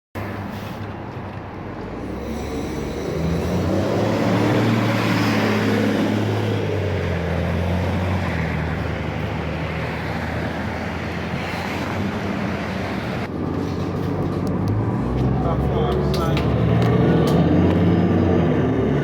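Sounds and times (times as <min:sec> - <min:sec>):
bus diesel engine running: 0:00.2 - 0:19.0.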